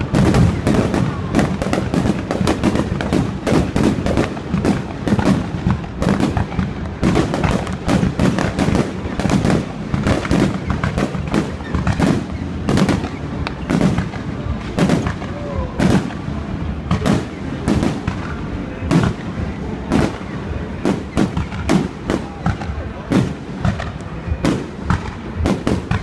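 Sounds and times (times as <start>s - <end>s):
fireworks booming and cracking: 0.0s - 26.0s
fireworks crackling: 0.0s - 26.0s.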